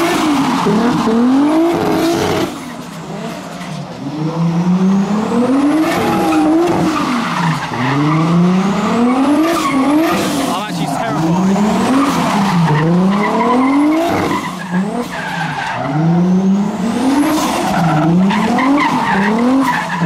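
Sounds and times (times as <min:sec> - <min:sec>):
turbocharged engine revving: 0:00.0 - 0:20.0.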